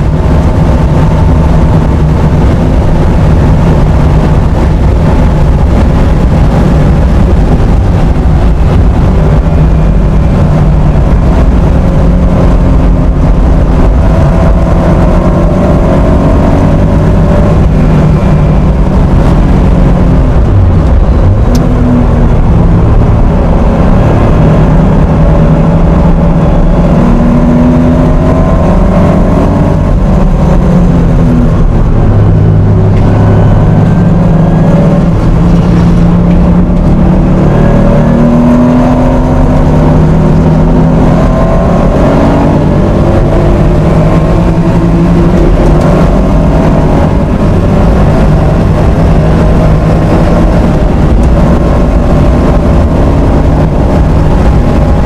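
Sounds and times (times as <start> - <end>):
car engine revving hard: 0.0 - 55.0
road and wind noise: 0.0 - 55.0.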